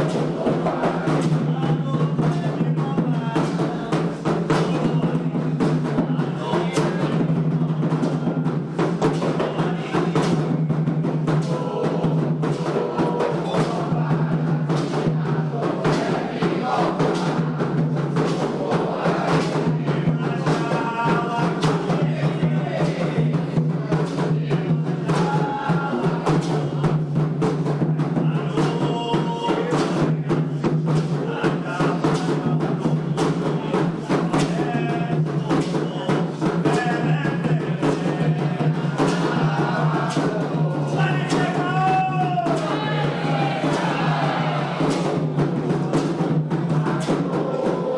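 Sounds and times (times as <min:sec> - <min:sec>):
hand drums playing: 0:00.0 - 0:47.9
voices singing: 0:00.0 - 0:47.9.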